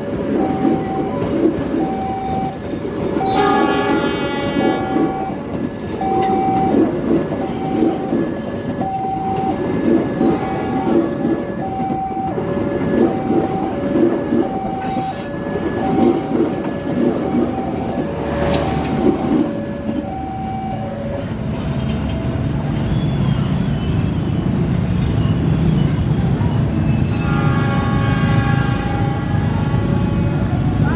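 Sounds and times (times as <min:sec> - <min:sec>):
train wheels rumbling: 0:00.0 - 0:30.9.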